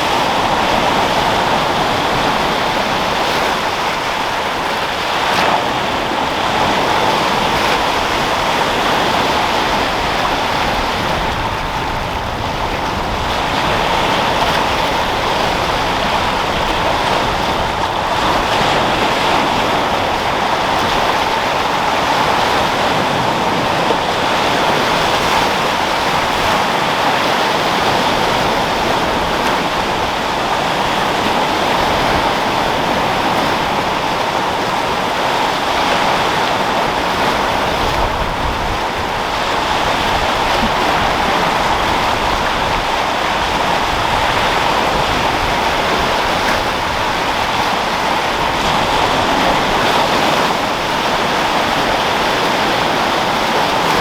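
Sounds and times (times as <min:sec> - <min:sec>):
sea surf rushing: 0:00.0 - 0:54.0
wind: 0:00.0 - 0:54.0.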